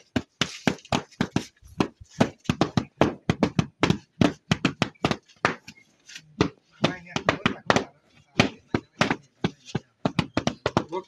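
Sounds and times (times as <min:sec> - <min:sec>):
sticks beating a quilt: 0:00.0 - 0:11.0.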